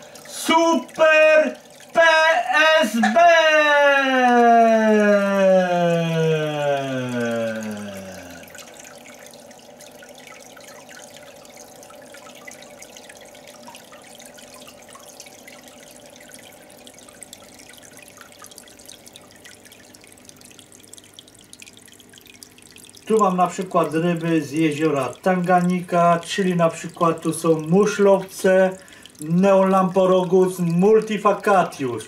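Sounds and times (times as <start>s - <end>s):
small drip ticks: 0.0s - 3.3s, 4.1s - 32.0s
faint steady hum: 0.0s - 32.0s
water trickling into tank: 0.0s - 32.0s.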